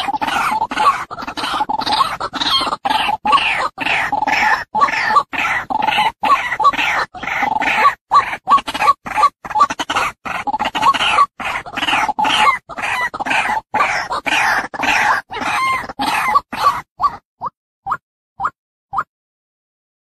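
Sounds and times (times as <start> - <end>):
bird harsh raspy calls: 0.0 - 17.2.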